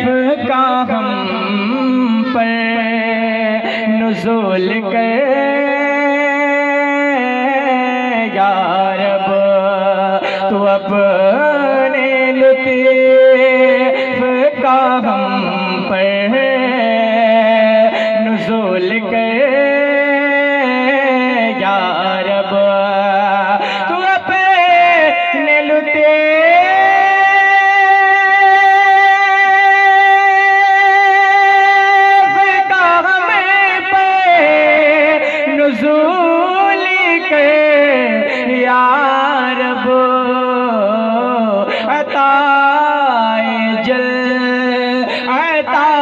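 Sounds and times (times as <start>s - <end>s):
man singing into a microphone: 0.0s - 46.0s.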